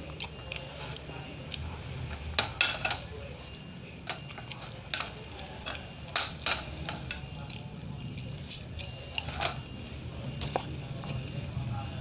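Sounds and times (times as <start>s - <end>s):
chewing: 0.0s - 2.3s, 3.0s - 11.9s.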